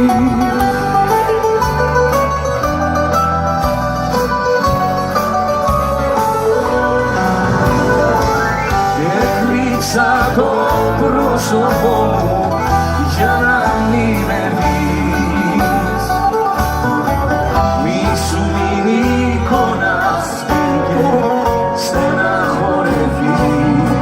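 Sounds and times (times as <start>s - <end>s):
bass line: 0.0s - 24.0s
plucked string melody: 0.0s - 24.0s.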